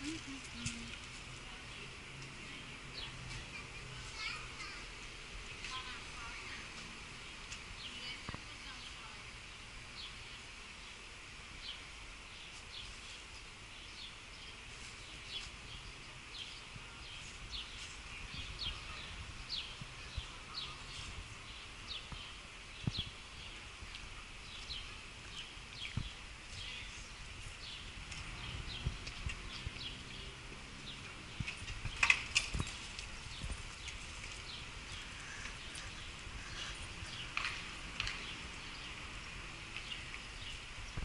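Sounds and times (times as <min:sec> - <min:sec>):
street noise hum: 0:00.0 - 0:41.0.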